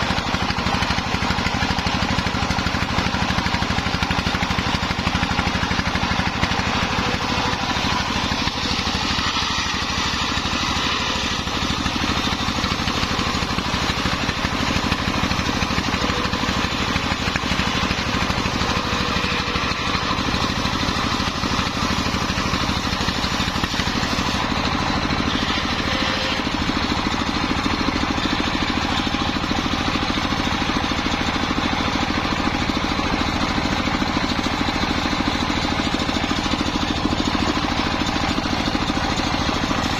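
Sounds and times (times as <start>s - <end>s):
circular saw sawing timber: 0.0s - 39.9s.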